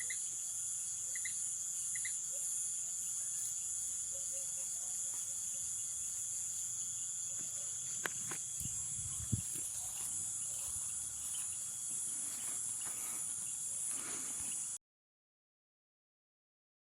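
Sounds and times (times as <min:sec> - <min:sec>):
insects trilling: 0:00.0 - 0:14.8.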